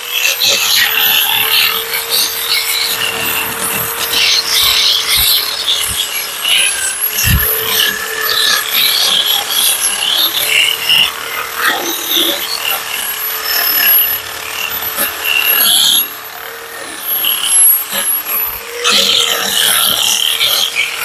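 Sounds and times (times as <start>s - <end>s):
drill motor whine: 0.0s - 21.0s.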